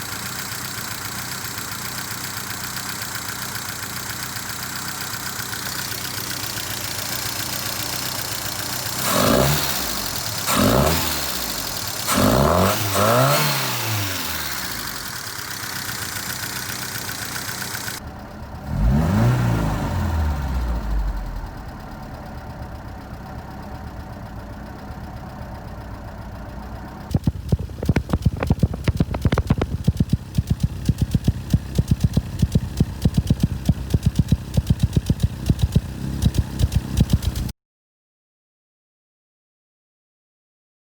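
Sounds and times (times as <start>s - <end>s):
car engine idling and revving: 0.0s - 37.5s.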